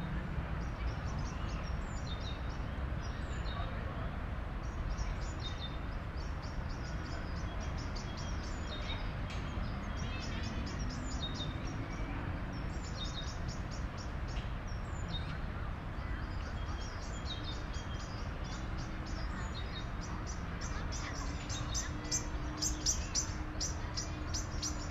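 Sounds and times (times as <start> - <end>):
city background rumble: 0.0 - 24.9
small birds chirping: 0.6 - 24.9.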